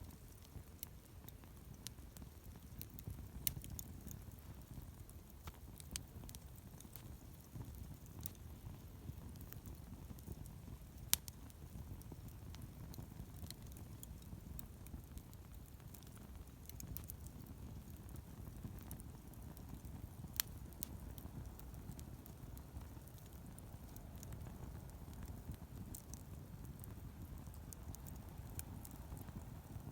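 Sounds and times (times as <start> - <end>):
campfire rumbling: 0.0 - 29.9
fire crackling and popping: 0.0 - 29.9.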